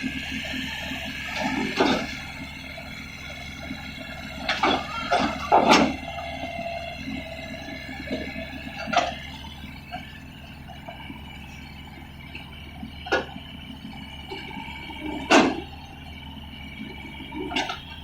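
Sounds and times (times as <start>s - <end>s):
excavator running: 0.0s - 18.0s.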